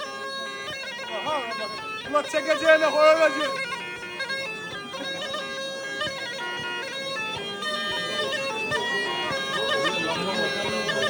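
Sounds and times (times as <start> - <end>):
bagpipe playing fast dance tune: 0.0 - 11.0.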